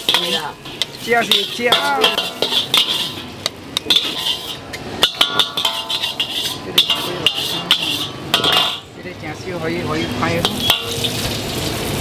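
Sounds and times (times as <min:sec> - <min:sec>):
metal spatula clanking on wok: 0:00.0 - 0:09.0, 0:10.0 - 0:11.4.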